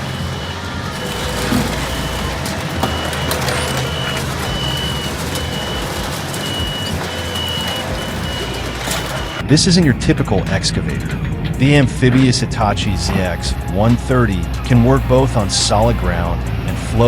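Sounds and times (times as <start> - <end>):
reversing alarm beeping: 0.0 - 10.2, 10.9 - 17.0
diesel engine rumble: 0.0 - 17.0.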